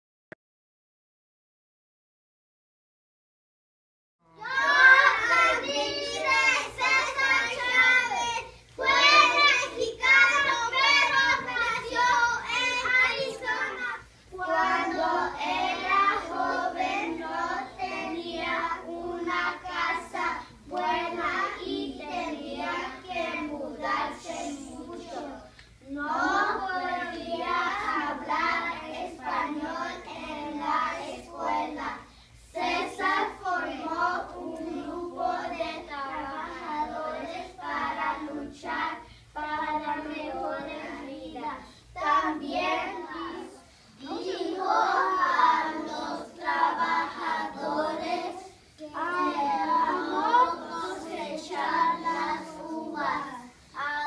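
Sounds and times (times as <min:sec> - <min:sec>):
children reading aloud together: 0:04.3 - 0:54.0.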